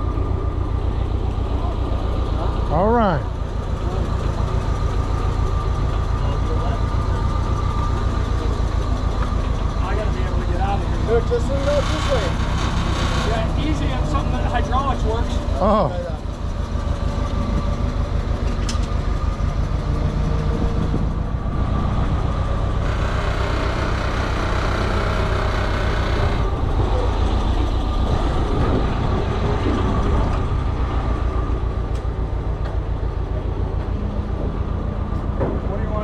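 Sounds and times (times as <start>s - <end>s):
forklift engine running: 0.0s - 36.0s.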